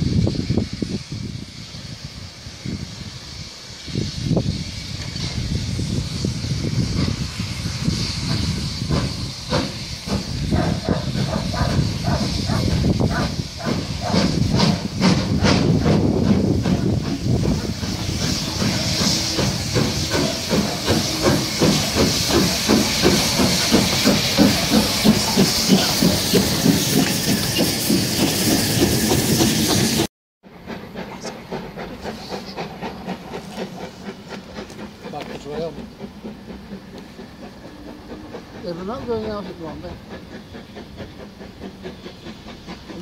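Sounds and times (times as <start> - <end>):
hissing steam: 0.0 - 43.0
steam locomotive chuffing: 0.0 - 43.0.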